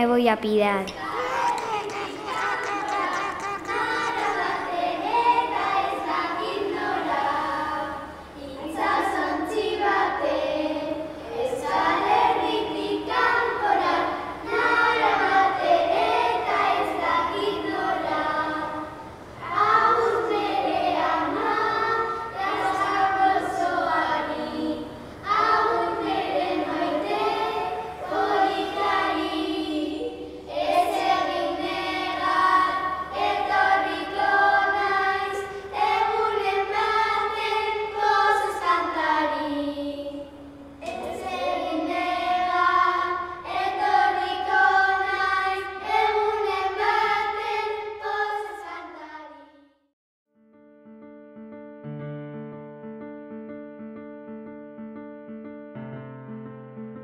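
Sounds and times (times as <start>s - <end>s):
children singing together: 0.9s - 49.5s.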